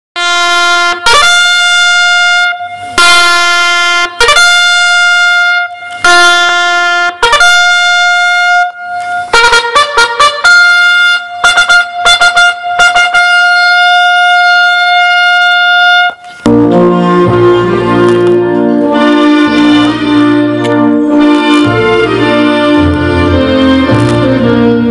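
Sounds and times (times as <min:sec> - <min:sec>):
bugle call on brass horn: 0:00.2 - 0:24.9.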